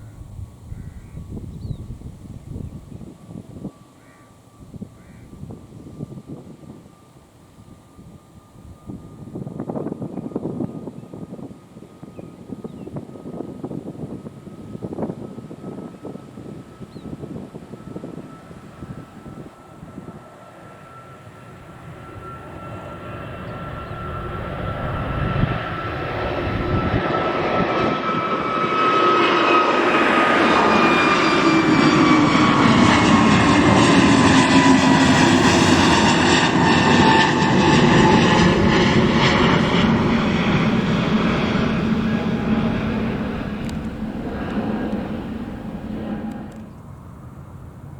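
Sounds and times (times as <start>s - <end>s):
jet airliner taking off: 0.0s - 47.9s.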